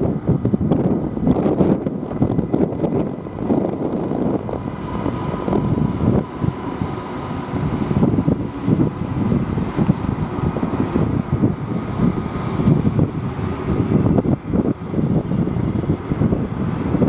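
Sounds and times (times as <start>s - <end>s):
electric train running: 0.0s - 17.0s
road traffic: 0.0s - 17.0s
wind buffeting microphone: 0.0s - 17.0s.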